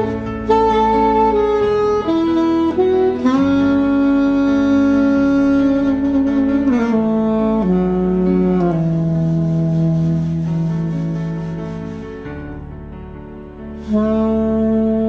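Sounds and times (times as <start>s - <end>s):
slow instrumental music: 0.0s - 15.0s.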